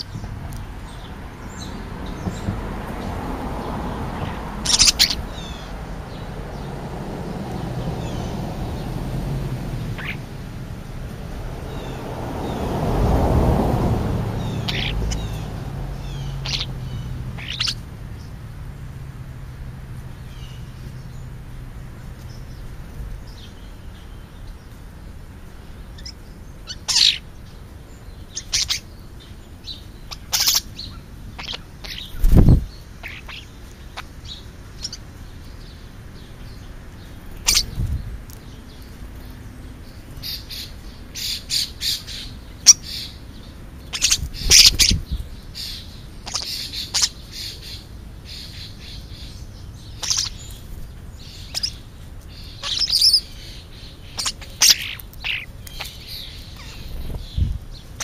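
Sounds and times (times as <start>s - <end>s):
starlings chirping and squawking: 0.0s - 58.0s.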